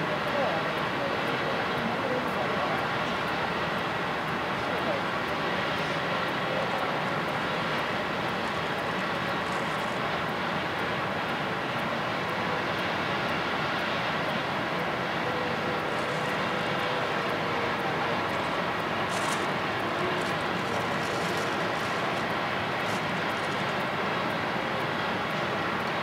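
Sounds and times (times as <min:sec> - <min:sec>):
jet engines rushing and whining: 0:00.0 - 0:26.0.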